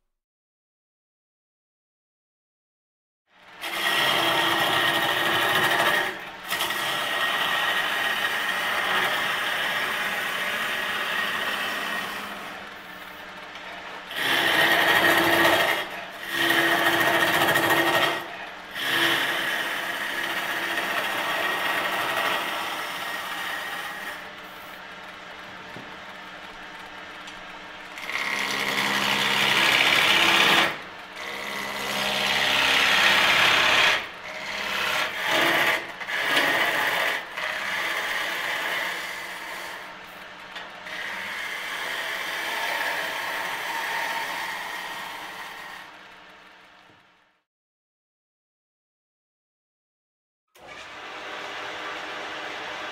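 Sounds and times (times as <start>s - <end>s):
lathe motor hum: 3.4s - 47.1s, 50.6s - 52.9s
tool scraping spinning wood: 3.5s - 46.4s.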